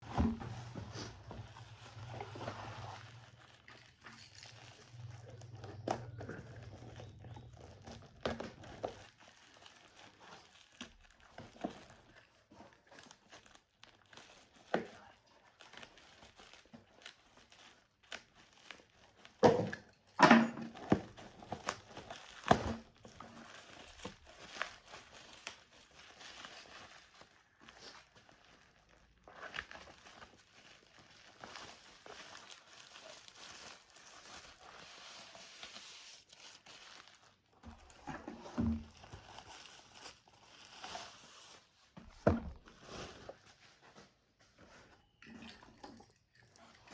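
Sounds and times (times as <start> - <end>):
plastic packaging crinkling and tearing: 0.0 - 43.7.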